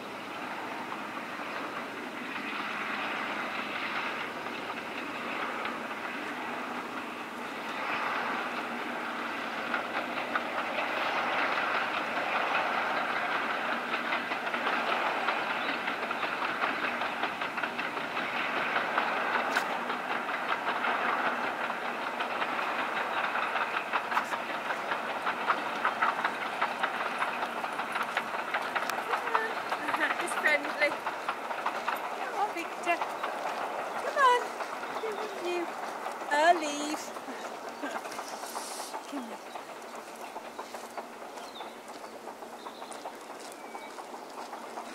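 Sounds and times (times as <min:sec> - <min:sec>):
diesel locomotive rumbling: 0:00.0 - 0:44.9
wheels clacking over rail joints: 0:00.0 - 0:44.9.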